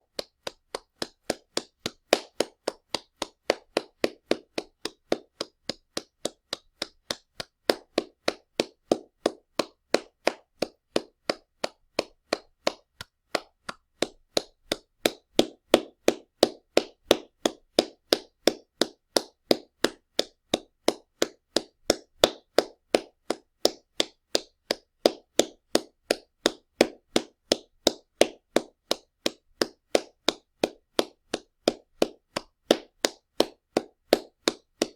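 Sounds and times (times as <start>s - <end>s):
hands clapping: 0.0s - 34.9s.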